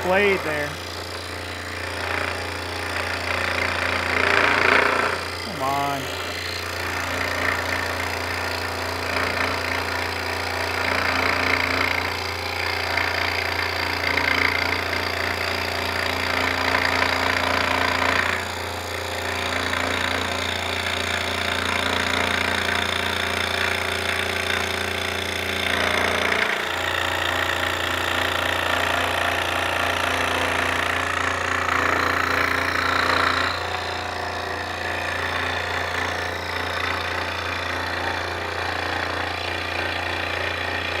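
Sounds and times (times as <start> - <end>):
saw blade rasping through wood: 0.0 - 41.0
scroll saw motor hum: 0.0 - 41.0.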